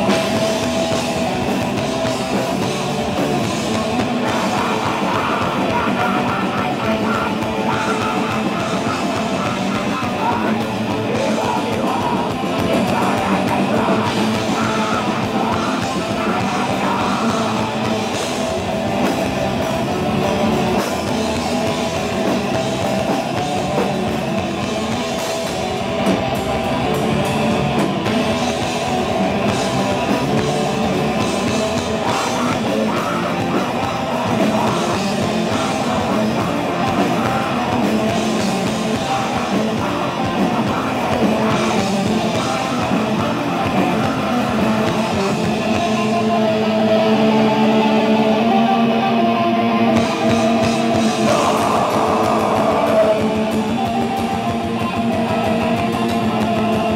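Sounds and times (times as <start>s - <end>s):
person singing into microphone: 0.0s - 25.4s, 27.2s - 56.9s
distorted electric guitars: 0.0s - 56.9s
drum kit: 0.0s - 56.9s.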